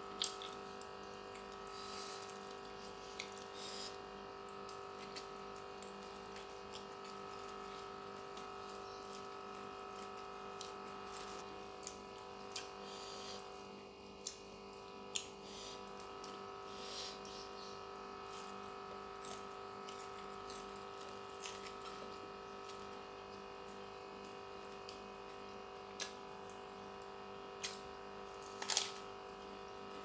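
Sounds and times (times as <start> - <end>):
steady background hum: 0.0 - 30.0
soft chewing: 0.1 - 30.0.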